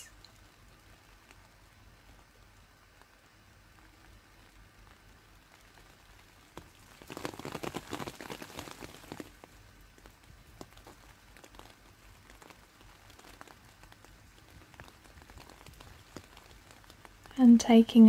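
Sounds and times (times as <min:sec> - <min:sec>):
raindrops pattering on leaves: 0:00.0 - 0:18.0.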